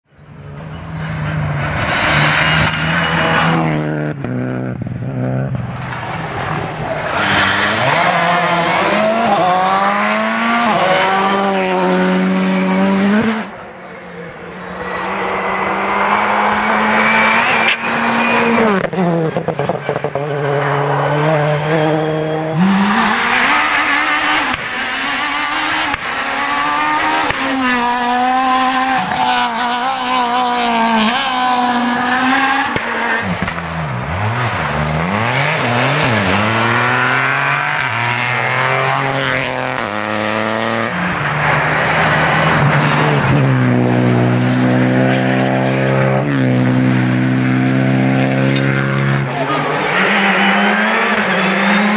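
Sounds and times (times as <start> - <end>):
rally car engines revving: 0.1 - 51.9.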